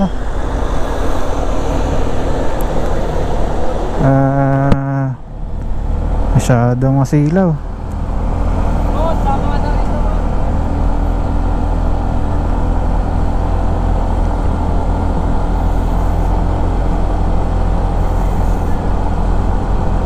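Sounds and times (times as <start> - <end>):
scooter engine drone: 0.0 - 20.0.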